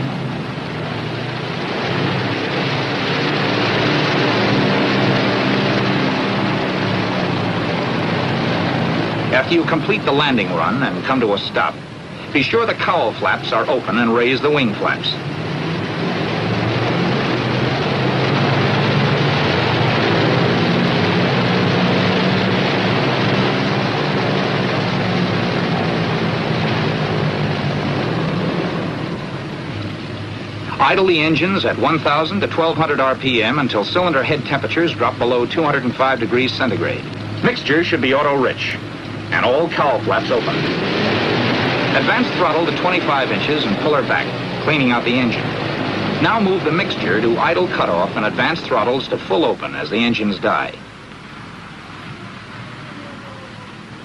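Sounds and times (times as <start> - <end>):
aircraft radial engines running: 0.0 - 54.0.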